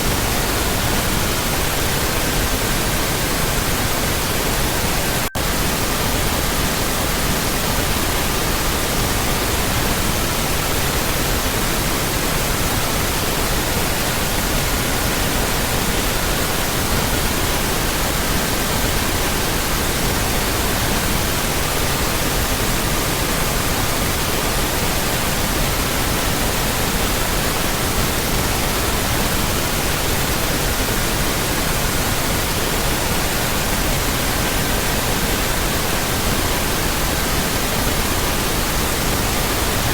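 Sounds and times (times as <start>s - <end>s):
pink noise hissing: 0.0s - 39.9s.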